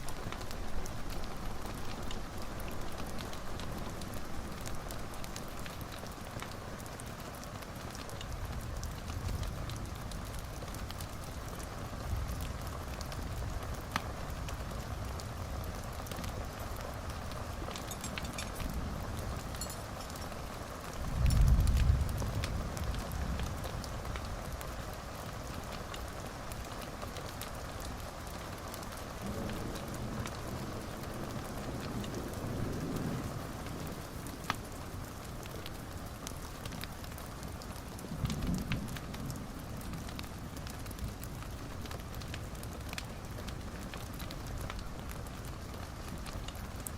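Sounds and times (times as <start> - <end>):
fire crackling: 0.0 - 46.9
wood fire burning: 0.0 - 46.9.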